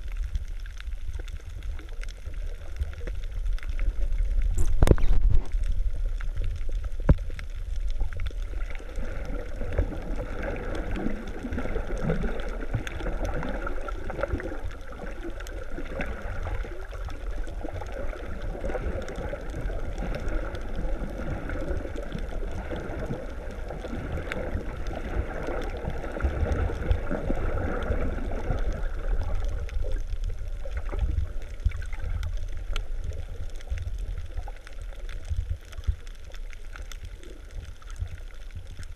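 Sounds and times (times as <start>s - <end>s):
steady low rumble: 0.0s - 38.9s
water gurgling and sloshing: 0.0s - 38.9s.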